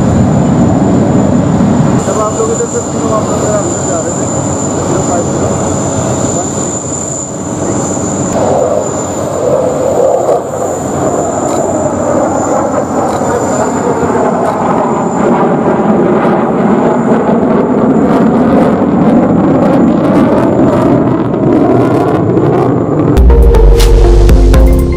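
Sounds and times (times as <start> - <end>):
crackling in jet roar: 0.0 - 23.2
high jet whine: 0.0 - 24.9
jet engine roar: 0.0 - 24.9.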